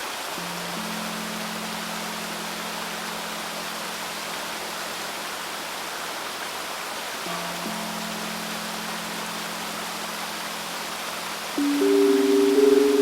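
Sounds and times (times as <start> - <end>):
river stream rushing: 0.0 - 13.0.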